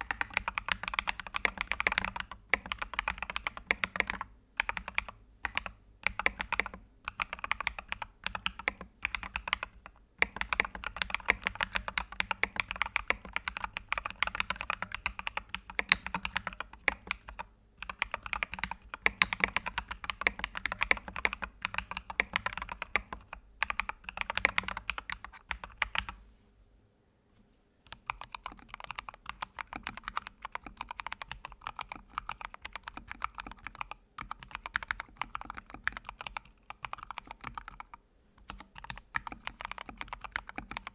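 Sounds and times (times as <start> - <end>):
fast typing on computer keyboard: 0.0 - 26.2, 27.9 - 40.9.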